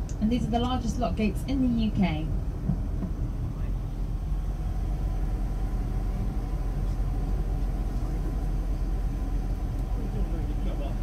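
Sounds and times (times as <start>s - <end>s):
coach engine rumble: 0.0s - 11.0s
road noise: 0.0s - 11.0s.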